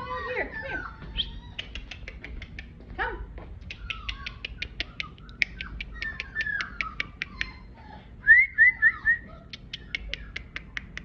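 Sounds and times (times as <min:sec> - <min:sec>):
puppy squeaks: 0:00.0 - 0:02.6, 0:03.7 - 0:11.0
puppy whimpering: 0:00.0 - 0:02.8, 0:03.7 - 0:11.0.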